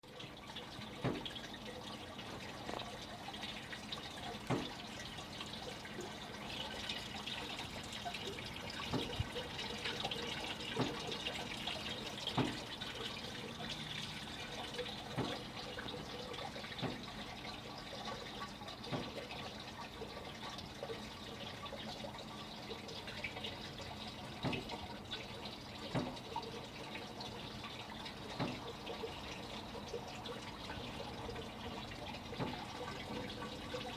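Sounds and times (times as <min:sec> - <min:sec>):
water drips and splashes: 0:00.0 - 0:33.9
water trickling: 0:00.0 - 0:33.9.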